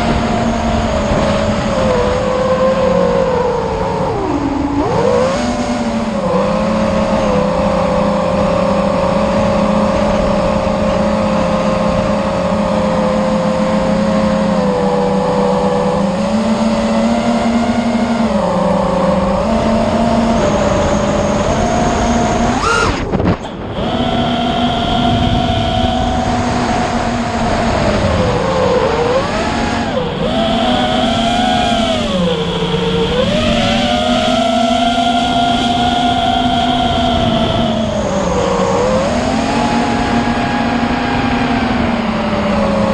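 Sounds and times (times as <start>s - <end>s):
motor running: 0.0s - 42.9s.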